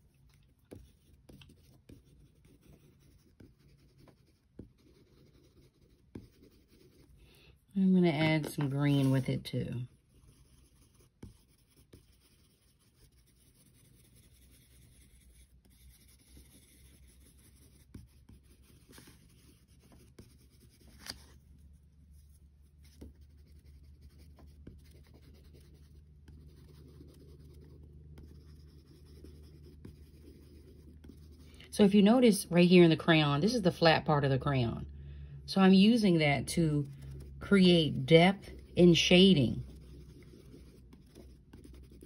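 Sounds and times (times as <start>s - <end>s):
crayon scratching on paper: 0.0s - 7.2s, 8.0s - 21.4s, 22.1s - 32.2s, 35.8s - 42.0s.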